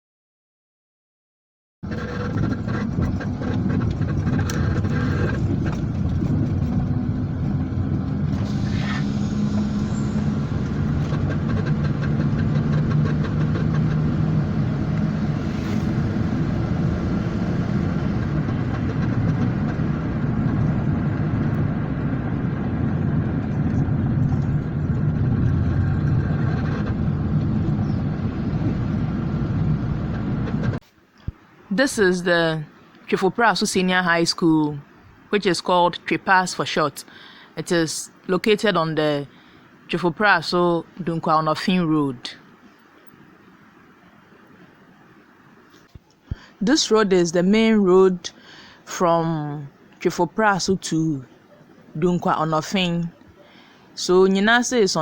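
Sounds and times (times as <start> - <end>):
vehicle engine and road rumble: 1.8 - 55.0.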